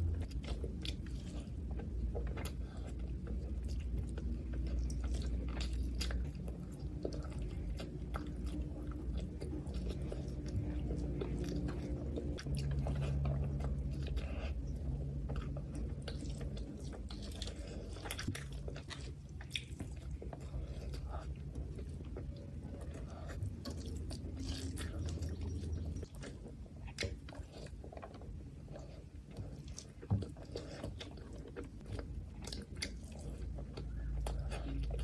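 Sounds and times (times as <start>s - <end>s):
wet chewing and lip smacking: 0.0s - 35.0s.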